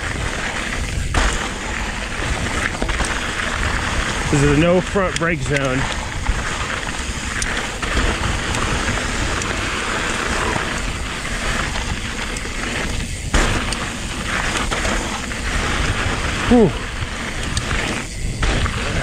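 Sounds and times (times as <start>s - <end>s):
bike tyres crunching on gravel: 0.0s - 19.0s.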